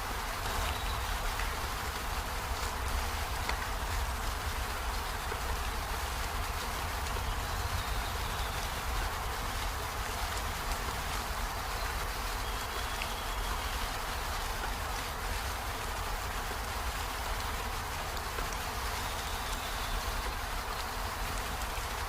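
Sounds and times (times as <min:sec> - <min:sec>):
steady rain on leaves: 0:00.0 - 0:22.0.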